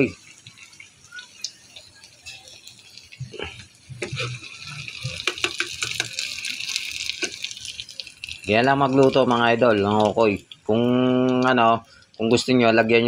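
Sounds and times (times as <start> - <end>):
oil sizzling: 0.0 - 13.0.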